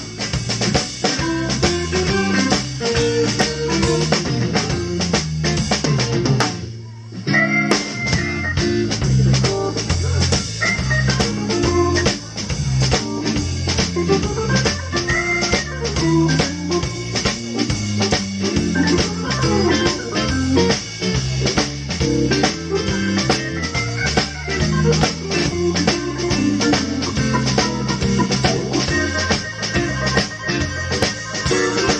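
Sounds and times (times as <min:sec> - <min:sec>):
electric organ playing lead lines: 0:00.0 - 0:06.6, 0:07.2 - 0:31.9
drum kit steady beat: 0:00.0 - 0:31.9
guitar: 0:00.0 - 0:31.9.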